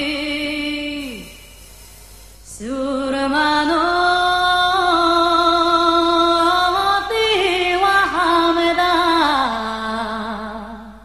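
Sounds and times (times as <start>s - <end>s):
woman singing: 0.0s - 1.4s, 2.5s - 11.0s.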